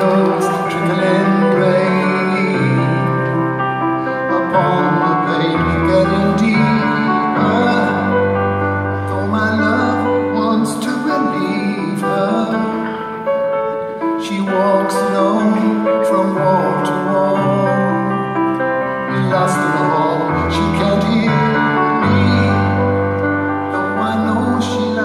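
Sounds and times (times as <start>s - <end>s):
slow piano song: 0.0s - 25.0s.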